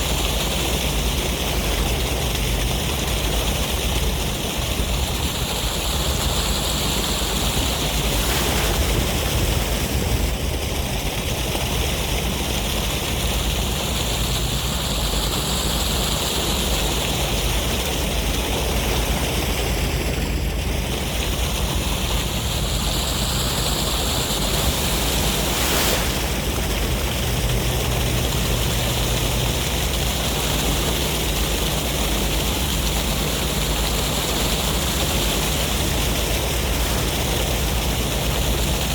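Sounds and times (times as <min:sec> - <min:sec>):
ocean waves and sea breeze: 0:00.0 - 0:38.9.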